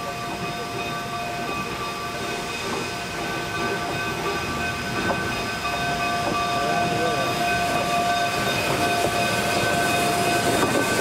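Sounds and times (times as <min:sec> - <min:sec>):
high-pitched ringing tones: 0:00.0 - 0:11.0
steam locomotive hissing: 0:00.0 - 0:11.0.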